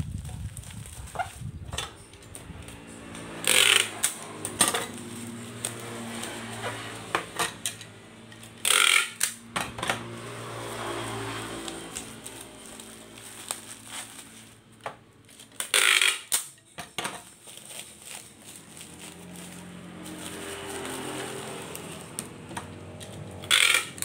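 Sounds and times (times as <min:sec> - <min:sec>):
bubble wrap crinkling: 0:00.0 - 0:07.0, 0:10.2 - 0:16.4, 0:17.2 - 0:24.0
packing tape ripping: 0:00.0 - 0:07.1, 0:08.3 - 0:09.5, 0:10.5 - 0:14.6, 0:15.2 - 0:16.6, 0:17.2 - 0:24.0.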